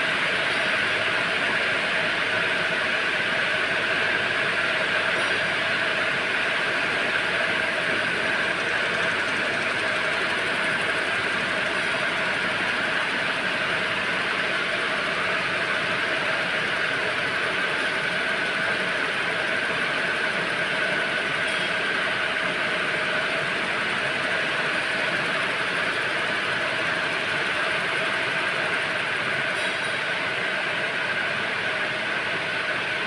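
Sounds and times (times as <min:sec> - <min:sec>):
webbing machines running: 0:00.0 - 0:33.0.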